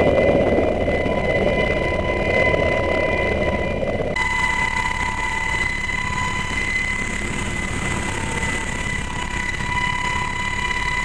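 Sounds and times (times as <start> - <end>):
helicopter engine drone: 0.0 - 11.0
high turbine whine: 0.0 - 11.0.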